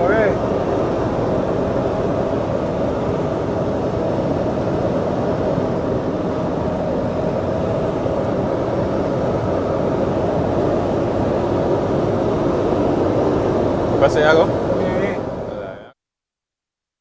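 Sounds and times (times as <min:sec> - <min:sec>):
truck diesel engine running: 0:00.0 - 0:15.9
road noise: 0:00.0 - 0:16.0.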